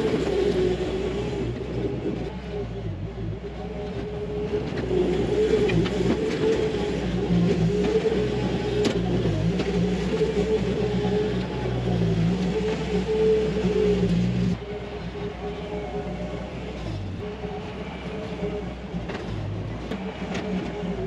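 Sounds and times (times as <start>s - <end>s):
diesel engine running hard: 0.0s - 21.0s.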